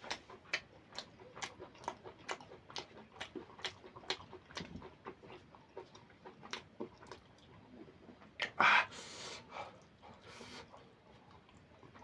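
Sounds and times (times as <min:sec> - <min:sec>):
wet chewing smacks and clicks: 0:00.0 - 0:08.6, 0:09.6 - 0:12.0.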